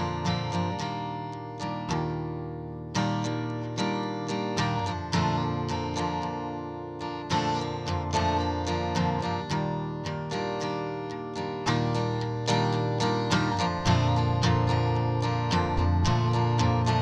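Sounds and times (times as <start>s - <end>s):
acoustic guitar plucking: 0.0s - 17.0s.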